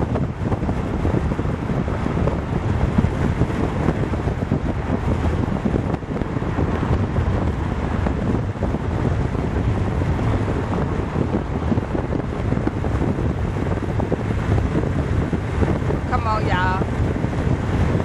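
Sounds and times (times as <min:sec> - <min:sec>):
road and traffic noise: 0:00.0 - 0:18.0
wind buffeting microphone: 0:00.0 - 0:18.0.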